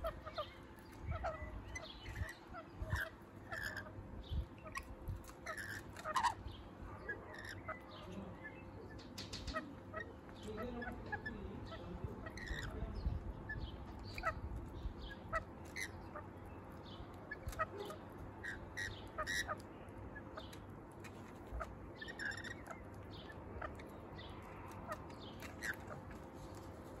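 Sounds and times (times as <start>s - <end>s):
parrots screeching and chirping: 0.0s - 27.0s.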